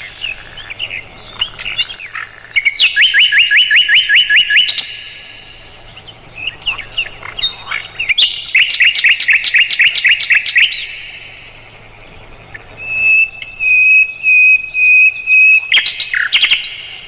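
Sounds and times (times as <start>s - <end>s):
bird chirping and whistling: 0.0s - 11.4s, 12.5s - 17.0s.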